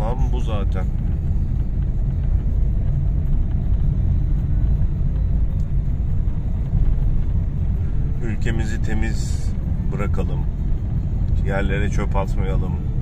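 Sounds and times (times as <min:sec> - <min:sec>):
car engine rumble: 0:00.0 - 0:13.0
tyres on asphalt: 0:00.0 - 0:13.0.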